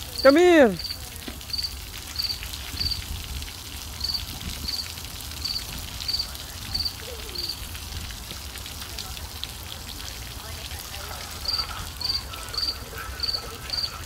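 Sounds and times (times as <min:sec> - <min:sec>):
water spattering and dripping: 0:00.0 - 0:14.0.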